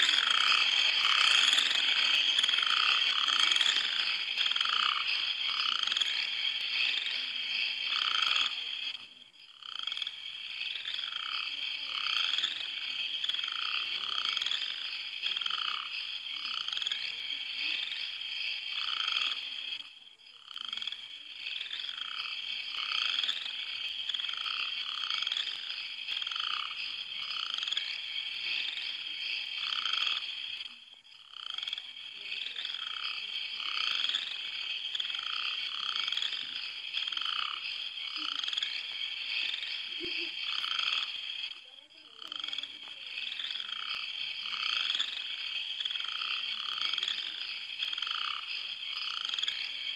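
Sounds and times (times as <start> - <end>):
high-pitched chirring chorus: 0.0 - 20.4, 21.0 - 49.9
frogs croaking: 0.0 - 49.9.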